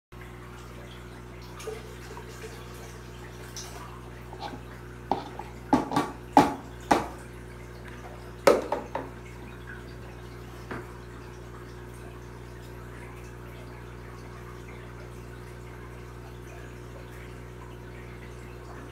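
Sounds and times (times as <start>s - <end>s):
aquarium equipment hum: 0.2s - 18.9s.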